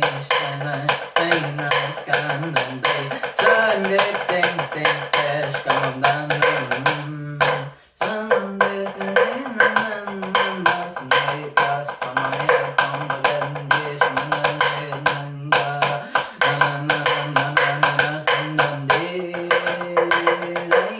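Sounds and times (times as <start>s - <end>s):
song with fast percussion beat: 0.0s - 20.9s.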